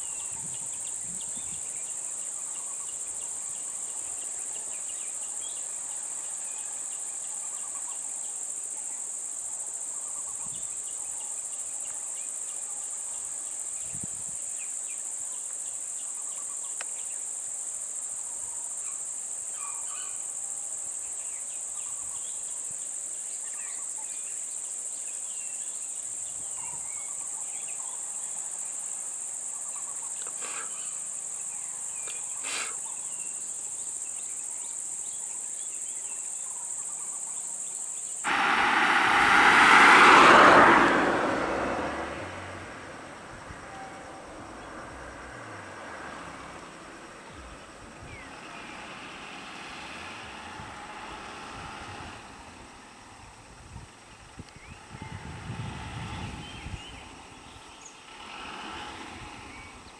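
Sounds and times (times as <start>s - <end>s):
faint insect chirps: 0.0s - 59.9s
high-pitched insect chorus: 0.0s - 59.9s.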